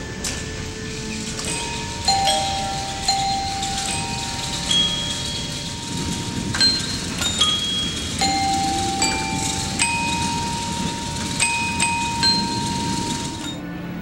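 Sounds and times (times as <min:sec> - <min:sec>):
bell-like chime tones: 0:00.0 - 0:13.8.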